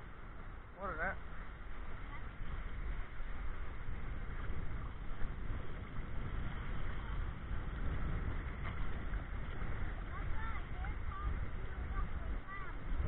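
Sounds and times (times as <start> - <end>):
shallow sea water lapping: 0.0 - 13.0
wind buffeting microphone: 0.0 - 13.0.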